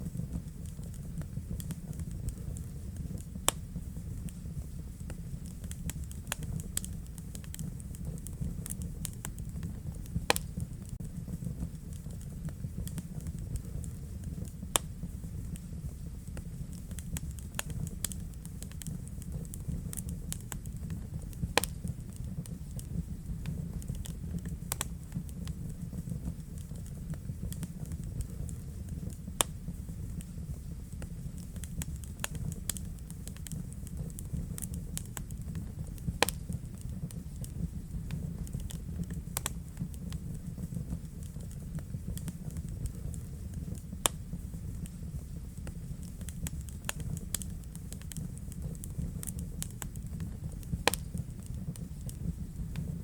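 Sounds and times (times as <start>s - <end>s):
fire crackling and popping: 0.0s - 53.0s
flames rumbling: 0.0s - 53.0s.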